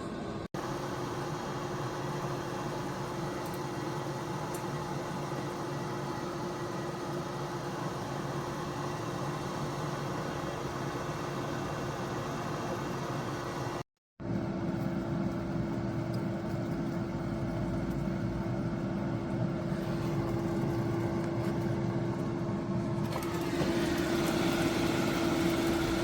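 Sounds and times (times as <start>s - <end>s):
air fryer whirring: 0.0s - 26.0s.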